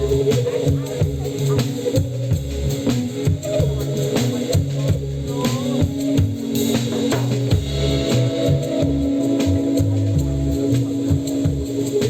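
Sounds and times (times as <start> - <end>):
drum kit beat: 0.0 - 12.0
held bass notes: 0.0 - 12.0.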